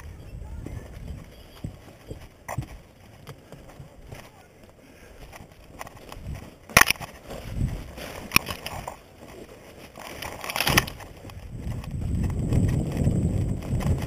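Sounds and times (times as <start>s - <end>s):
brush and twigs rustling: 0.0s - 14.0s.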